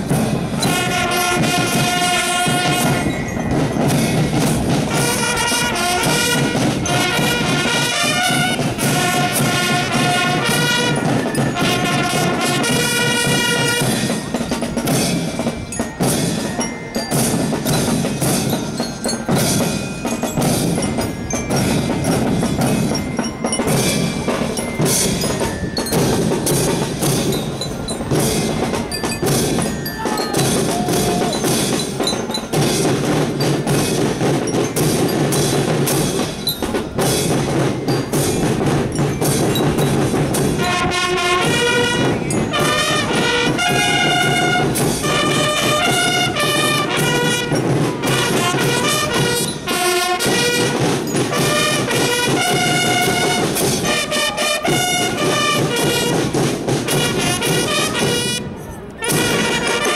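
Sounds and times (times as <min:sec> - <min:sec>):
marching band melody: 0:00.0 - 0:59.9
snare and bass drums: 0:00.0 - 0:59.9.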